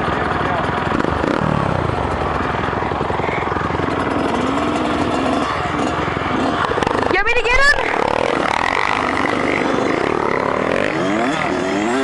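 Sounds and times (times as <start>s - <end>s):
dirt bike engines idling: 0.0s - 12.0s.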